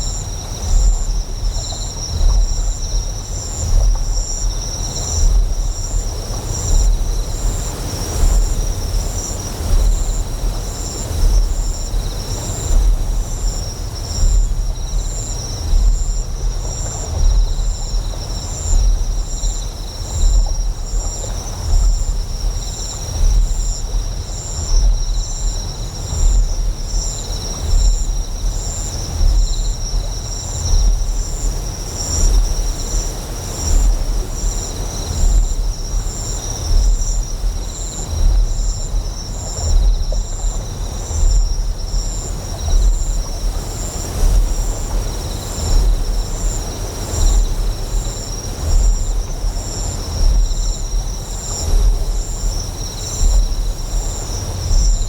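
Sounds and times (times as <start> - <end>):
faint flowing water: 0.0 - 55.0.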